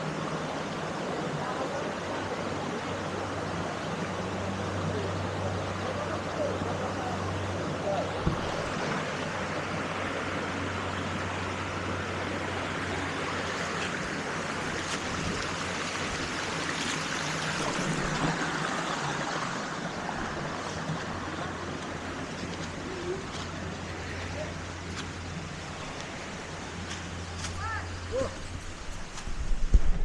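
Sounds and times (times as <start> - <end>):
waterfall rushing into pool: 0.0 - 30.0.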